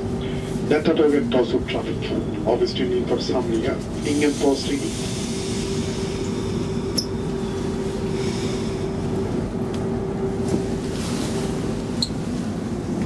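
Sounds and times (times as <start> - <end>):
electrical whine: 0.0 - 13.0
train rumbling hum: 0.0 - 13.0.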